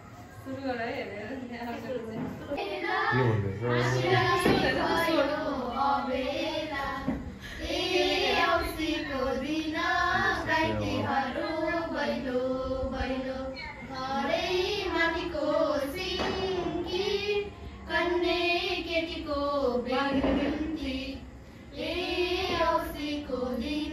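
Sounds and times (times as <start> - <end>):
girls singing together: 2.1 - 23.9.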